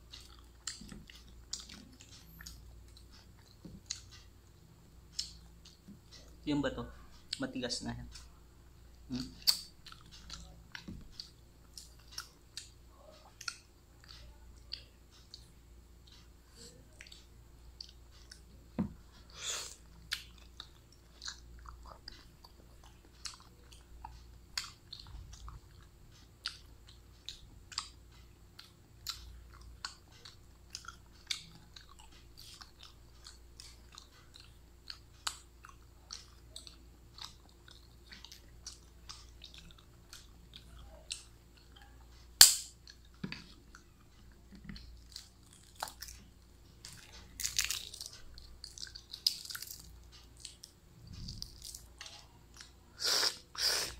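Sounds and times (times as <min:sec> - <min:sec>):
person chewing with mouth clicks: 0:00.0 - 0:04.3, 0:05.1 - 0:06.4, 0:09.0 - 0:53.9.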